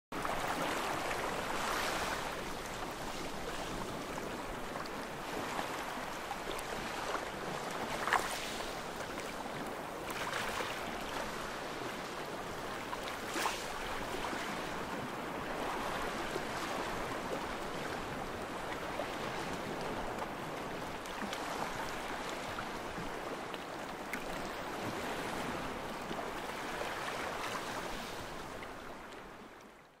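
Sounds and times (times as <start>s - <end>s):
ocean surf on sand beach: 0.2s - 29.5s.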